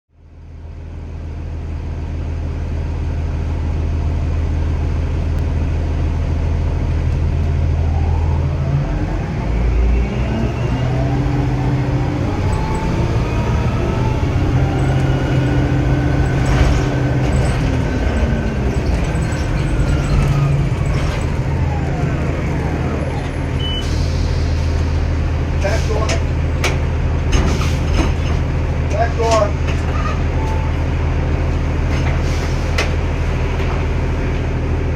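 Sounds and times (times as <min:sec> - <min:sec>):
diesel bus engine running: 0:00.1 - 0:34.9.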